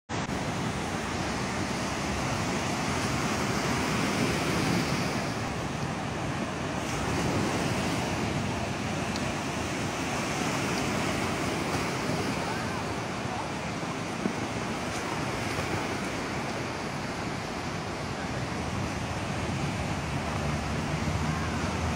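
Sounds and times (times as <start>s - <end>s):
ocean surf breaking on shore: 0.1s - 21.9s.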